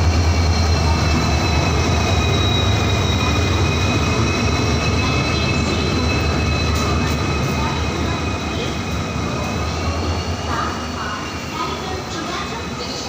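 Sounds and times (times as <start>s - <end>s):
locomotive engine drone: 0.0s - 13.0s
train rolling noise: 0.0s - 13.0s.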